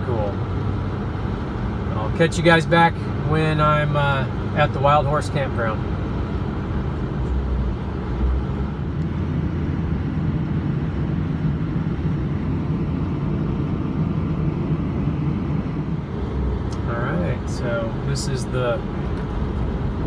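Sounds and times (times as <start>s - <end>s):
pickup truck engine and road noise: 0.0s - 20.0s.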